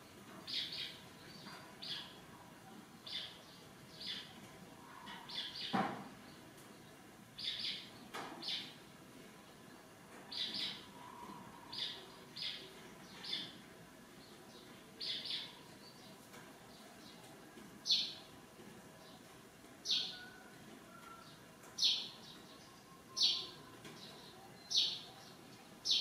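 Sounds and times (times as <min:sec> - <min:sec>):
faint outdoor background noise: 0:00.0 - 0:26.0
small birds chirping: 0:00.1 - 0:26.0.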